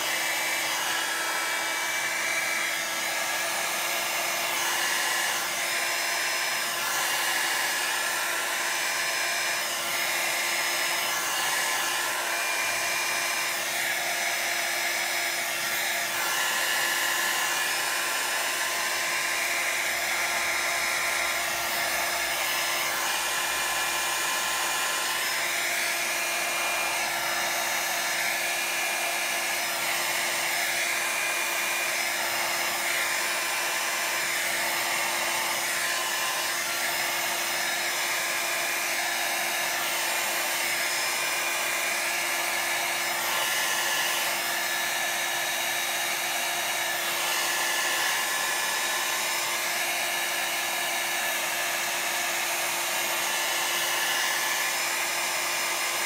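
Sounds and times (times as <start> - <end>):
heat gun blowing air: 0.0 - 56.0.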